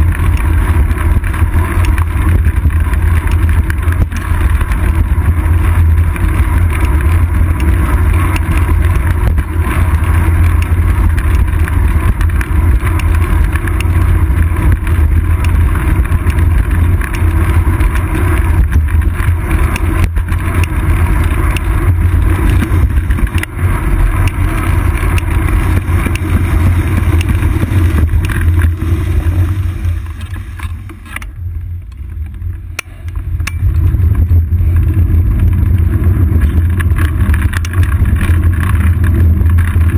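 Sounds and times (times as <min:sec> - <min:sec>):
bicycle tyres on asphalt: 0:00.0 - 0:39.9.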